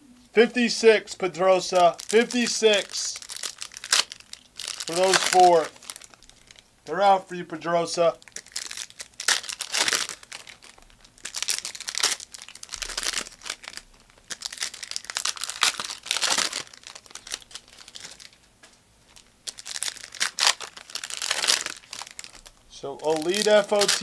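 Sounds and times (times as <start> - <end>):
plastic wrapping crumpled and torn: 1.7 - 6.7, 8.1 - 24.0.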